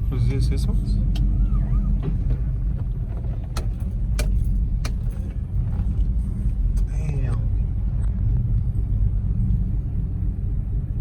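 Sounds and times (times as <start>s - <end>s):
truck engine rumble from inside cab: 0.0s - 11.0s.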